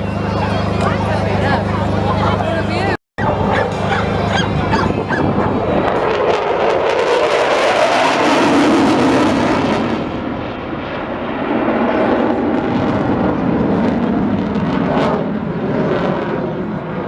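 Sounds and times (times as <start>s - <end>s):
aircraft flying past: 0.0s - 17.0s.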